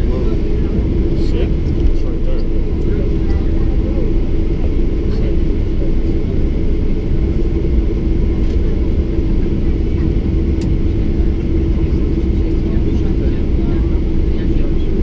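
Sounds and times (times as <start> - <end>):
aircraft cabin rumble and engine hum: 0.0 - 15.0.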